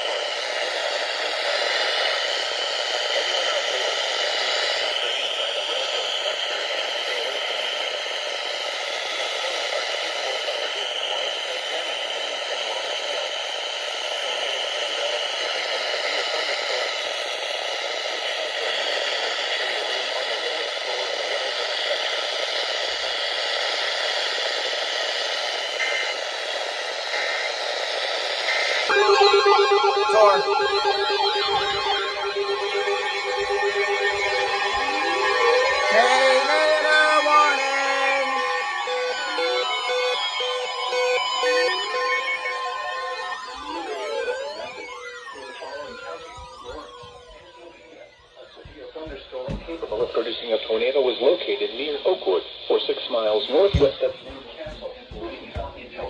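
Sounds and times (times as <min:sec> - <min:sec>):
radio static hiss: 0:00.0 - 0:43.2, 0:48.6 - 0:56.0.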